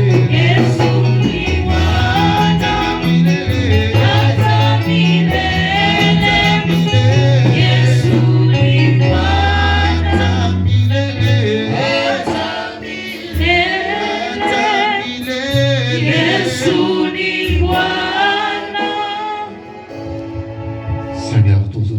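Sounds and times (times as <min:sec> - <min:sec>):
group singing gospel music: 0:00.0 - 0:21.2
band with steady bass line: 0:00.0 - 0:21.9.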